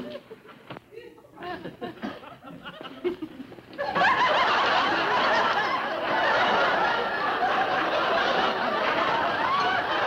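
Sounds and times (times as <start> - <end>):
audience laughter: 1.4 - 10.0.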